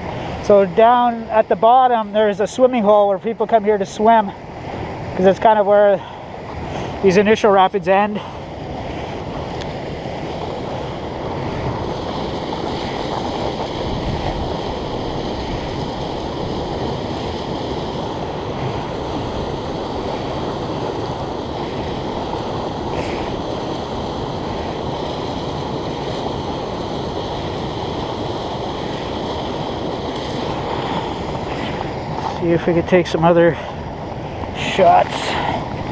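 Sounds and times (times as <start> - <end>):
river rapids rushing: 0.0 - 35.9.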